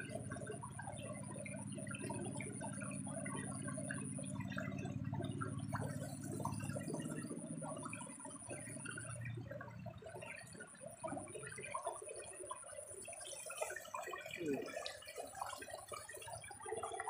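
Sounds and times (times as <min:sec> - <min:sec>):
low steady hum: 0:00.0 - 0:17.0
water trickling and bubbling: 0:00.0 - 0:17.0.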